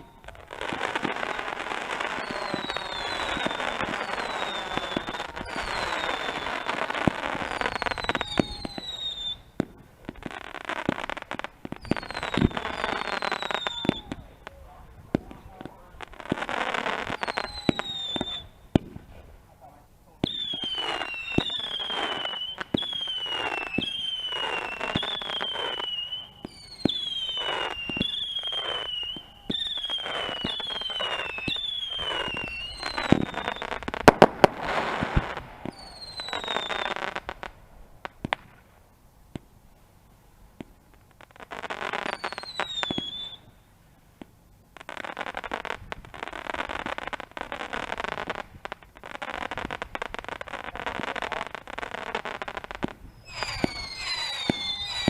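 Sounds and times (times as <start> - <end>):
whistling firework shots: 0.0 - 19.3, 20.1 - 39.5, 40.6 - 55.0
firework bangs: 0.0 - 19.4, 20.1 - 39.5, 44.2 - 55.0
firework crackling: 0.0 - 55.0.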